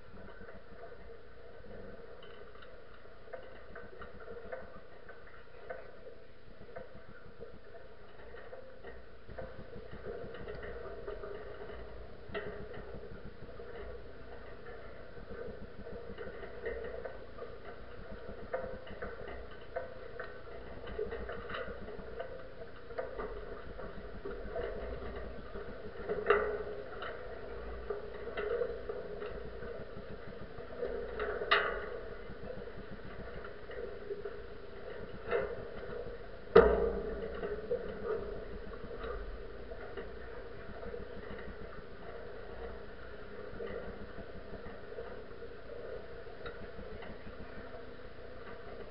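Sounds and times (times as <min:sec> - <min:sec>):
mast and rigging knocking: 0:00.2 - 0:48.9
camera rattling and ticking: 0:06.5 - 0:48.9.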